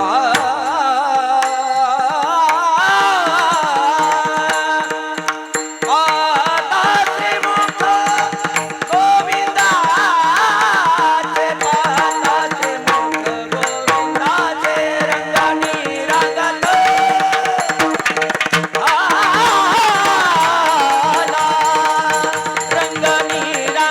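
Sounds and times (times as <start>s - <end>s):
person singing ornamented melody: 0.0s - 23.9s.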